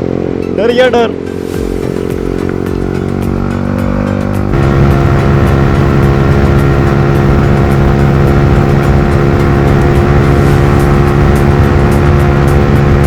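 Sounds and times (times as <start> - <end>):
motorcycle engine at high speed: 0.0 - 13.0.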